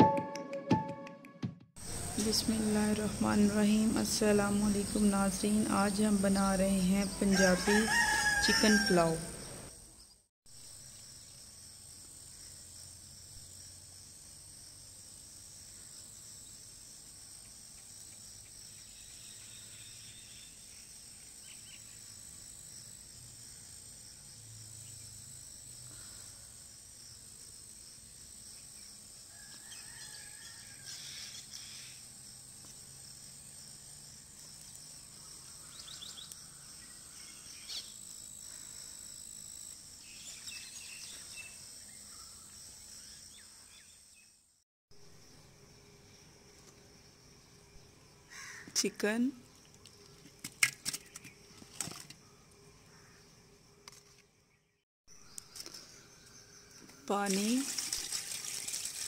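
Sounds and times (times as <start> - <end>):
insects chirring: 1.8 - 44.3, 45.0 - 59.0.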